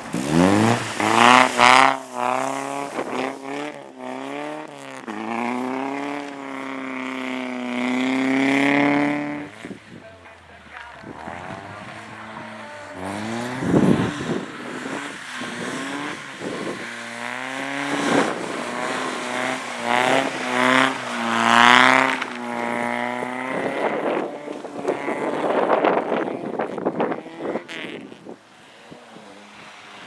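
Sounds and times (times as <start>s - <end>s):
car engine revving: 0.0s - 30.0s
rushes of noise: 0.0s - 30.0s.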